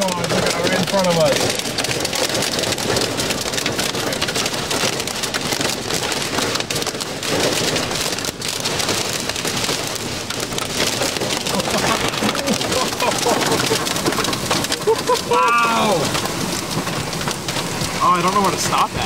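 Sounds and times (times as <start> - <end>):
heavy rain pelting car roof: 0.0 - 19.0.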